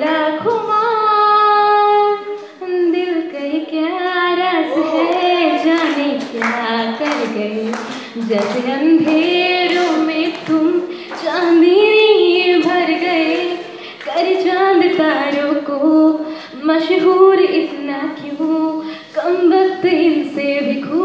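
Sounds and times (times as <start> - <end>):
women singing into microphones: 0.0 - 21.0.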